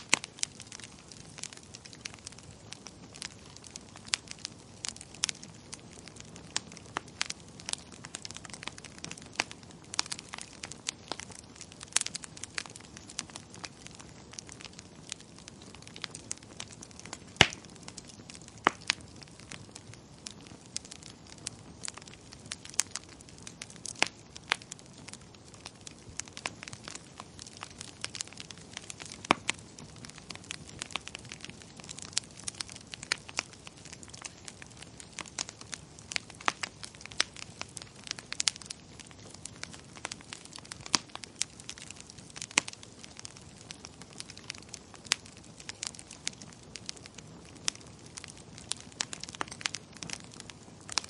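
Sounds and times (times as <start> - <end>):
fire crackling and popping: 0.0 - 51.0
soft steady hiss: 0.0 - 51.0.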